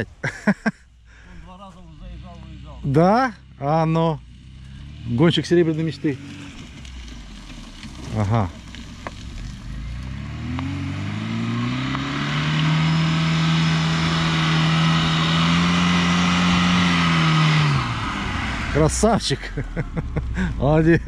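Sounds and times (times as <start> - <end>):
car engine revving: 0.4 - 21.0.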